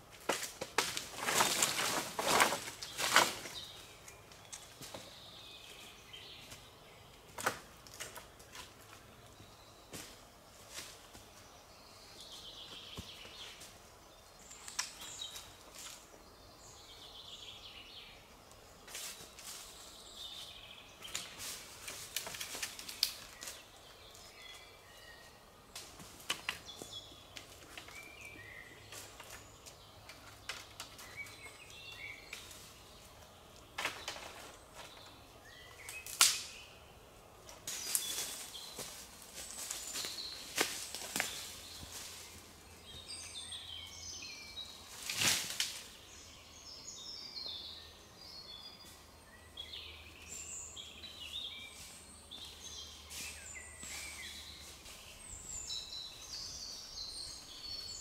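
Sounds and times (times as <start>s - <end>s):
bird singing: 2.4s - 7.5s, 8.1s - 10.6s, 11.2s - 21.5s, 22.3s - 45.0s, 45.8s - 58.0s.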